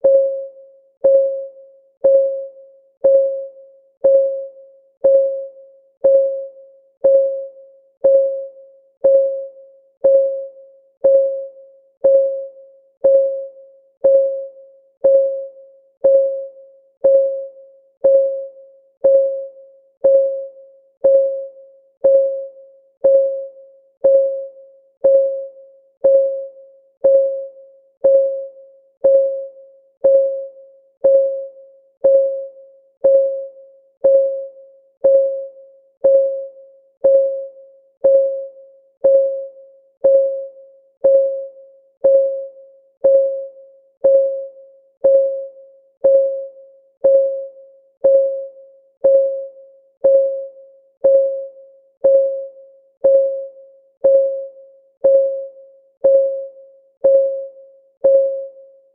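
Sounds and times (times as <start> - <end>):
timer ticking: 0.0 - 58.6.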